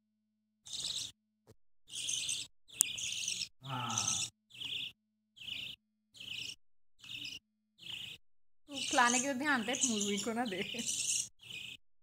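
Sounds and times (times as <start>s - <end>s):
chicks raspy begging calls: 1.9s - 11.8s.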